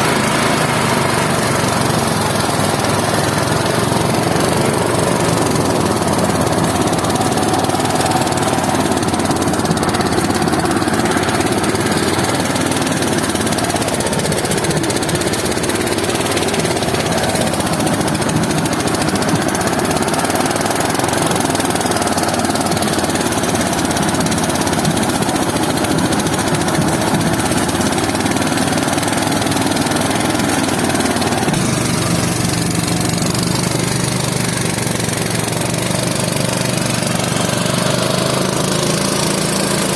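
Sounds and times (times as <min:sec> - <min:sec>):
small engine running under load: 0:00.0 - 0:39.9.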